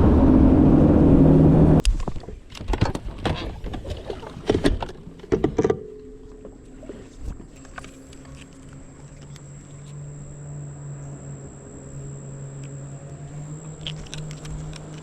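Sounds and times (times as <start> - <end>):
boat motor humming: 0.0 - 1.8, 3.8 - 15.0.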